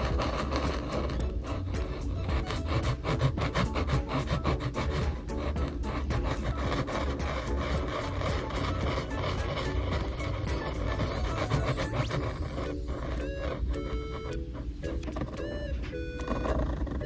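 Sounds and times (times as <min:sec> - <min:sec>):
pencil scratching on paper: 0:00.0 - 0:15.5, 0:16.2 - 0:17.0
background music: 0:00.0 - 0:17.0.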